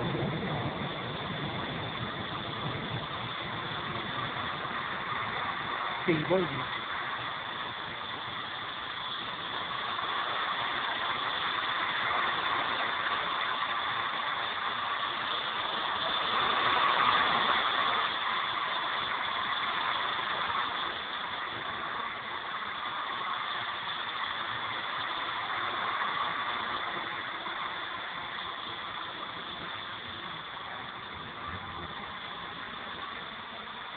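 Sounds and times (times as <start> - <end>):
rc helicopter whining: 0.0 - 33.9.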